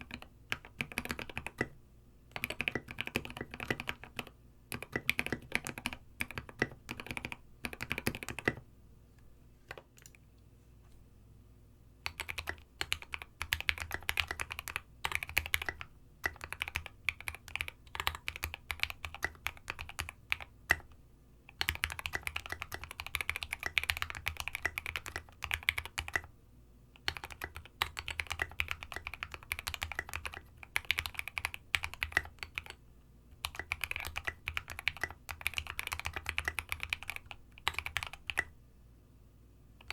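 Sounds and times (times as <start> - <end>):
keyboard typing clacks: 0.0 - 1.7, 2.4 - 8.6, 12.1 - 20.9, 21.6 - 26.3, 27.0 - 32.7, 33.4 - 38.5.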